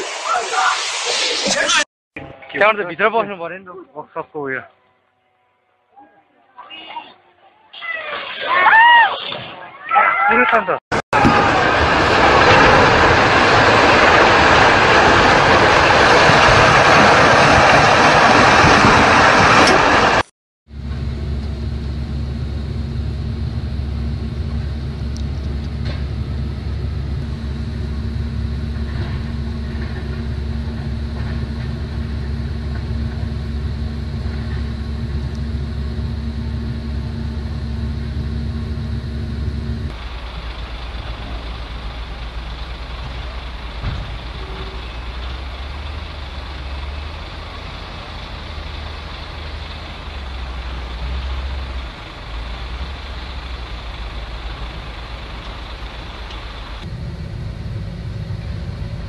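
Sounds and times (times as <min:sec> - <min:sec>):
distant heavy machinery rumble: 0:11.2 - 0:59.0
excavator diesel engine running: 0:11.2 - 0:59.0.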